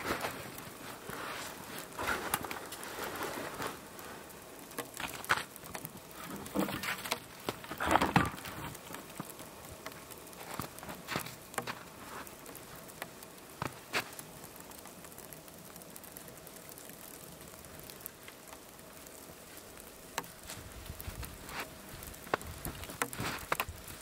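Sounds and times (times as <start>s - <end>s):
wet snow pattering: 0.0s - 24.0s.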